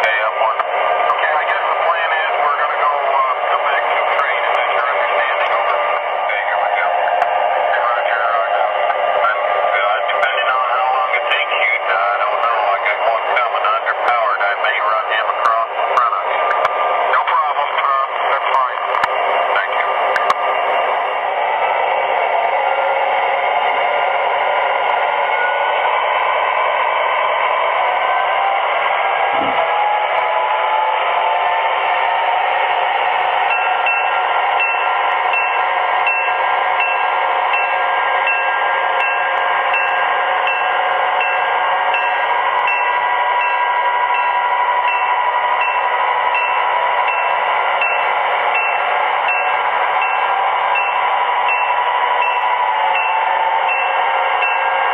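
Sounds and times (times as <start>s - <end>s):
locomotive bell ringing: 0.0s - 28.3s, 31.5s - 54.9s
model diesel locomotive rumble: 0.0s - 54.9s
motor and wheel noise: 0.0s - 54.9s.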